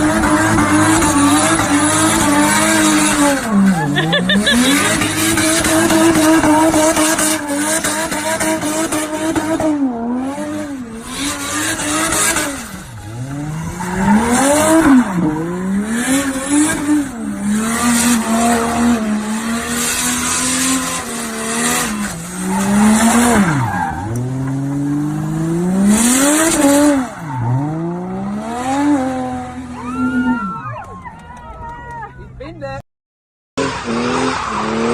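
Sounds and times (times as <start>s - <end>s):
car engine revving hard: 0.0s - 29.7s, 33.6s - 34.9s.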